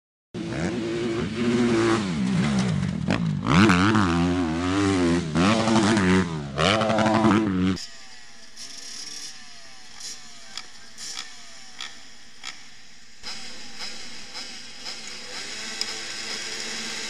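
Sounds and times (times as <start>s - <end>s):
motocross bike engines revving: 0.4s - 17.0s.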